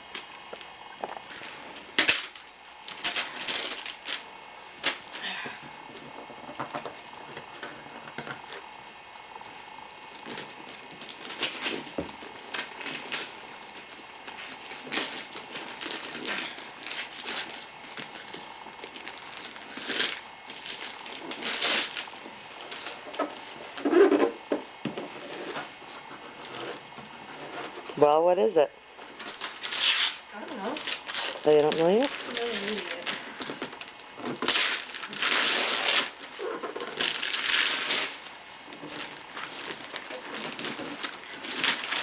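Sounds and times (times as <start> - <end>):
paper crinkling and tearing: 1.2 - 5.2, 5.9 - 24.4, 25.0 - 28.0, 29.0 - 42.0.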